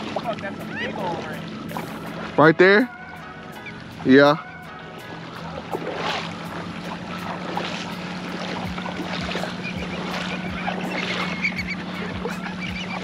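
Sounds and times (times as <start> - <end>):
water sloshing around wading people: 0.0 - 13.0.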